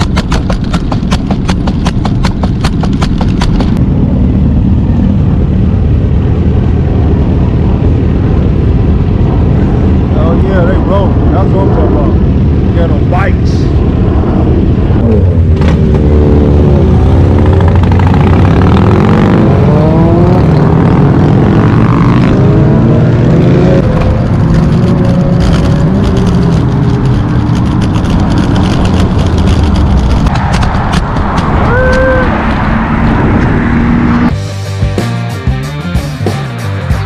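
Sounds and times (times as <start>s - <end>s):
wind rumbling on microphone: 0.0s - 34.4s.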